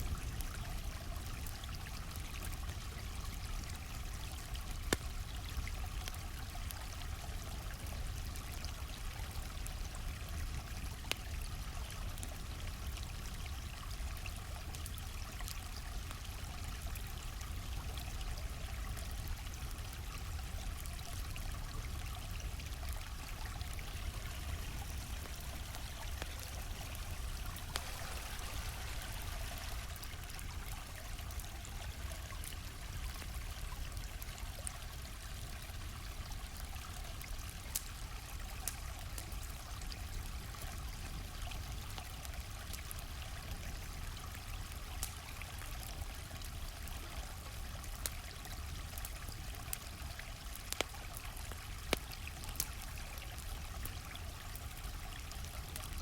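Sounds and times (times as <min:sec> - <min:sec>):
campfire crackling and popping: 0:00.0 - 0:56.0
stream flowing: 0:00.0 - 0:56.0.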